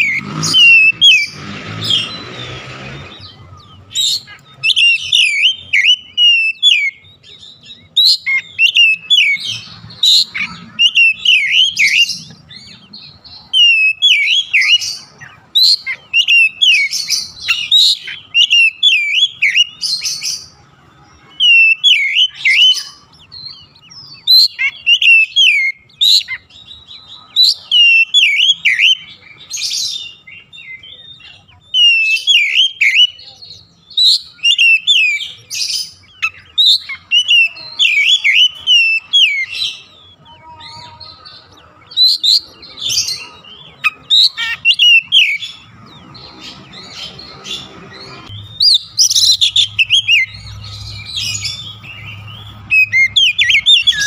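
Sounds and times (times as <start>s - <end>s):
bird singing whistled phrases: 3.2s - 20.5s, 21.3s - 40.2s, 41.9s - 45.7s, 47.6s - 54.0s.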